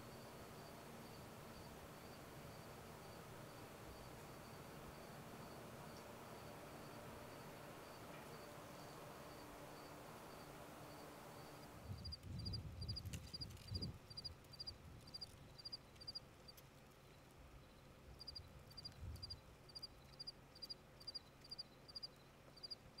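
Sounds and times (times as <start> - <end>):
cricket chirping: 0.0 - 16.2, 17.6 - 23.0.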